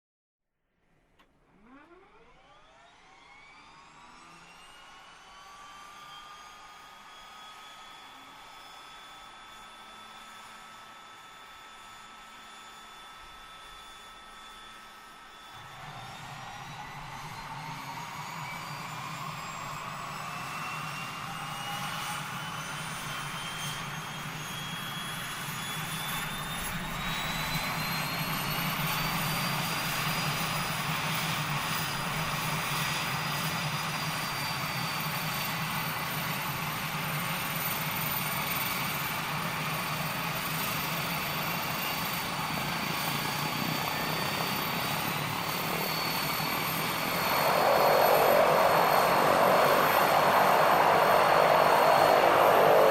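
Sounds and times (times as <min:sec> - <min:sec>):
turbine whine spooling up: 0:01.4 - 0:52.9
low propeller drone: 0:03.8 - 0:52.9.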